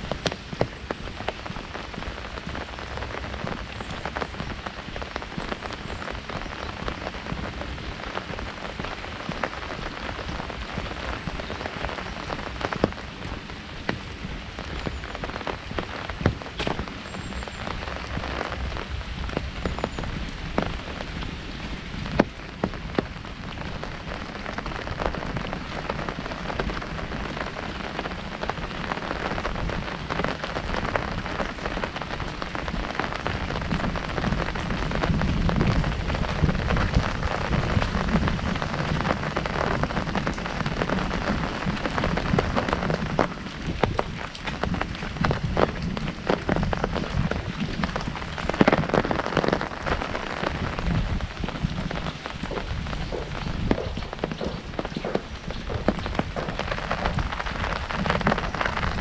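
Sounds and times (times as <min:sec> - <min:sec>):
rain on an umbrella: 0:00.0 - 0:59.0.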